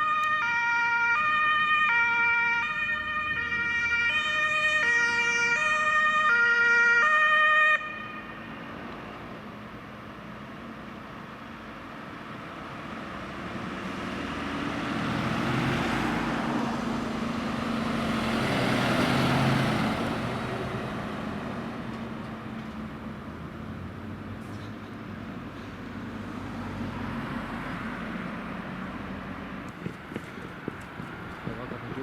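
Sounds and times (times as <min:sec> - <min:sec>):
vehicles driving past: 0:00.0 - 0:32.0.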